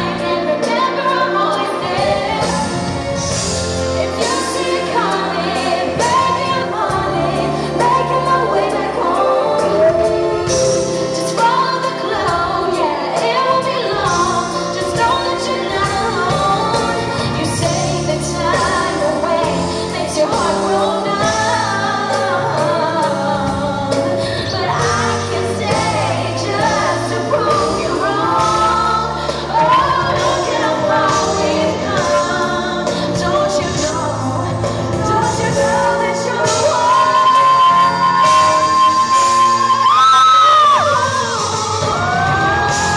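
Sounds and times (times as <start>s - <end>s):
instrumental accompaniment: 0.0s - 42.9s
woman singing a pop ballad: 0.0s - 42.9s.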